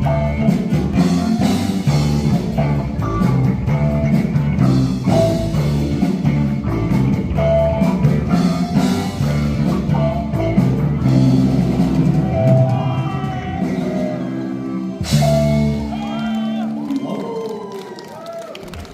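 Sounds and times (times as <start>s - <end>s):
drum kit: 0.0s - 16.8s
electric guitar: 0.0s - 17.0s
bass: 0.0s - 18.9s.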